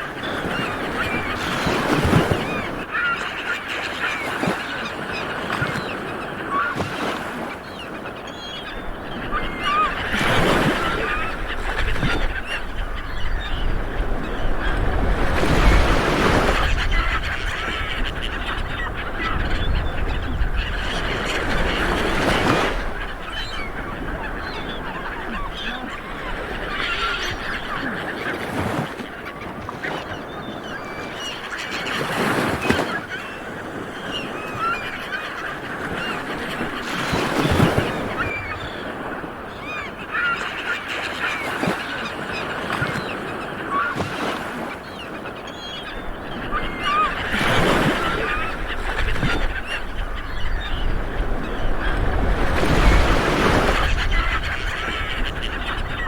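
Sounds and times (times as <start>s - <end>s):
small waves breaking on beach: 0.0s - 17.8s, 18.6s - 56.0s
birds calling: 0.0s - 56.0s.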